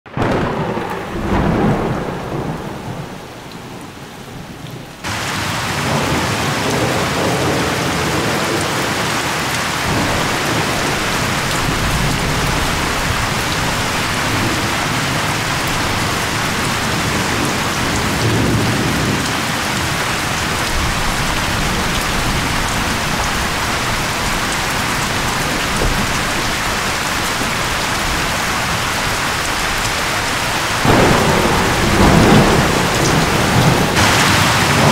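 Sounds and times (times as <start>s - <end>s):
storm wind on microphone: 0.1s - 34.9s.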